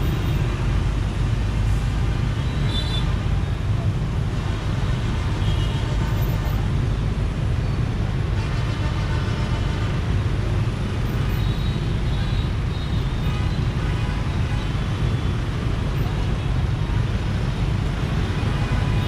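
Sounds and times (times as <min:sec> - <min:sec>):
other vehicles in traffic: 0:00.0 - 0:19.0.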